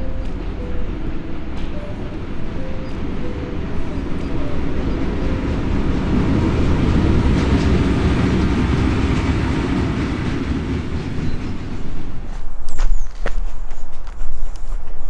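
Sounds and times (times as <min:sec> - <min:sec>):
train rumbling and rattling past: 0:00.0 - 0:15.0.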